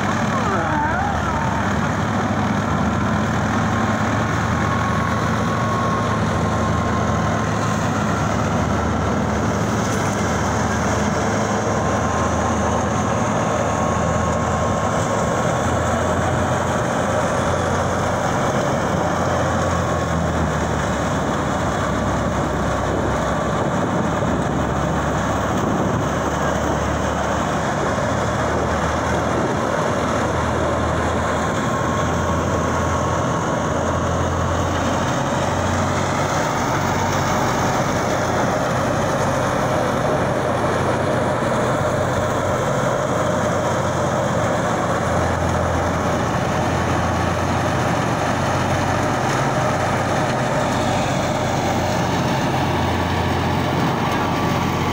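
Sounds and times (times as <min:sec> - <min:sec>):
tractor diesel engine drone: 0:00.0 - 0:54.9.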